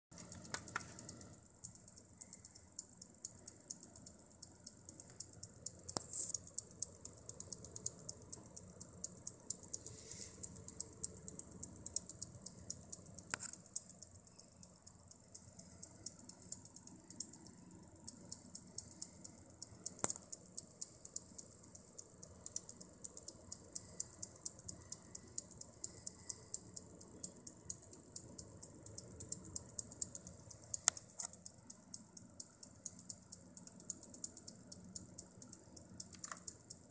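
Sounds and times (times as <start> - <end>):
faint steady hum: 0.1 - 36.9
power supply fast ticking: 0.1 - 36.9.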